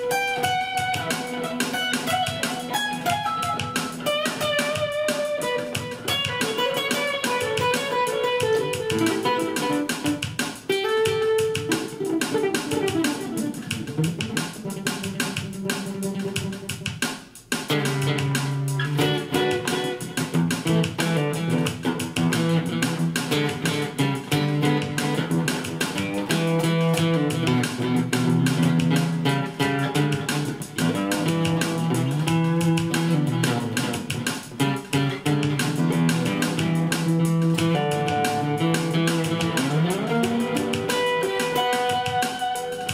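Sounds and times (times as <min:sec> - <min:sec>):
funk guitar playing: 0:00.0 - 0:42.9.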